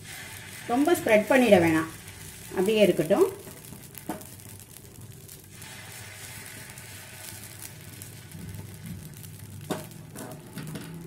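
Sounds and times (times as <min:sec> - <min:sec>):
batter sizzling on hot pan: 0:00.0 - 0:11.0.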